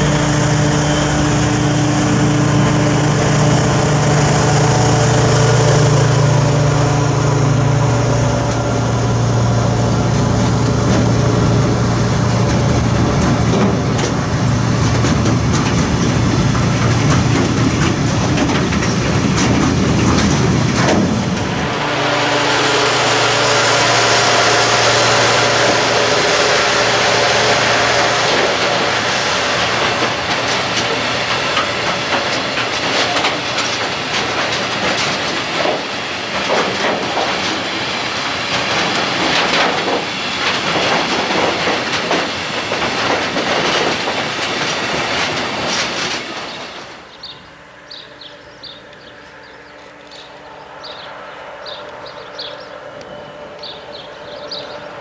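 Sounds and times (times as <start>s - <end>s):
diesel locomotive engine running: 0.0s - 55.0s
steady rushing hiss: 0.0s - 55.0s
train wheels clicking over rails: 0.0s - 55.0s.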